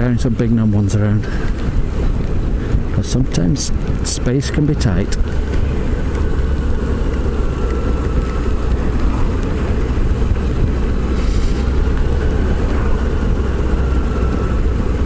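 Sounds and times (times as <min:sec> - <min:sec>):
motorcycle engine droning: 0:00.0 - 0:15.0
wind on microphone: 0:00.0 - 0:15.0.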